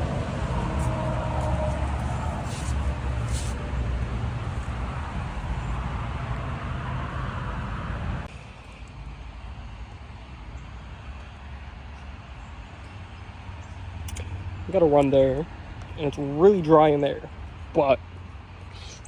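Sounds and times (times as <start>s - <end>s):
car engine rumble: 0.0s - 19.0s
road traffic noise: 0.0s - 19.0s.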